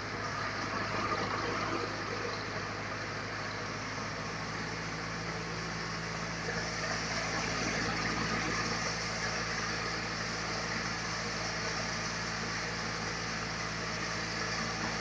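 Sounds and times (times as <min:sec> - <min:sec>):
sawmill machinery sawing log: 0:00.0 - 0:15.0.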